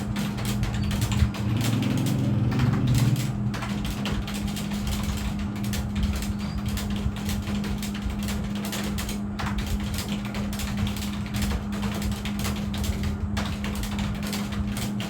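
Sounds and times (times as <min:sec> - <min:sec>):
fast keyboard typing: 0:00.0 - 0:15.0
steady low hum: 0:00.0 - 0:15.0.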